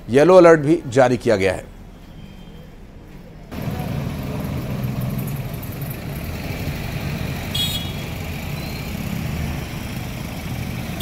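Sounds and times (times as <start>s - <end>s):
vehicles passing: 1.1s - 11.0s.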